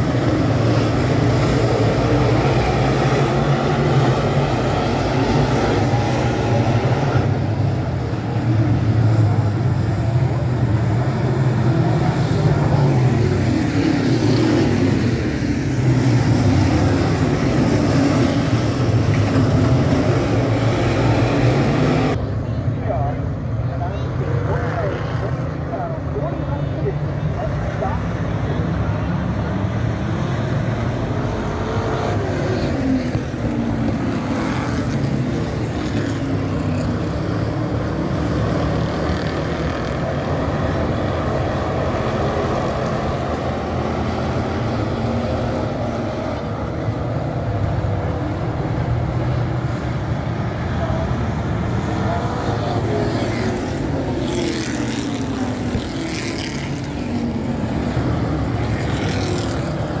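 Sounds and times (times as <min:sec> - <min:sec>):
race car engines passing: 0:00.0 - 1:00.0.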